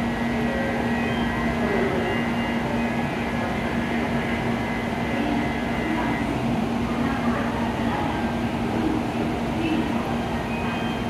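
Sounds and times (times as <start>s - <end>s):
train equipment whirring hum: 0.0s - 11.0s.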